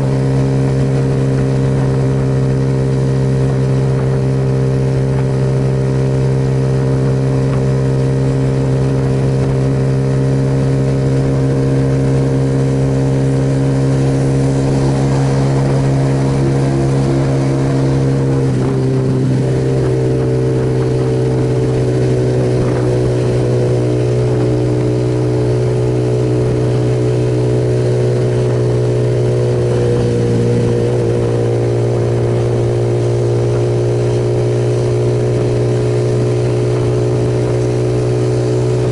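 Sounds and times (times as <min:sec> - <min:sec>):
motorcycle engine running: 0:00.0 - 0:38.9
steady rushing noise: 0:00.0 - 0:38.9.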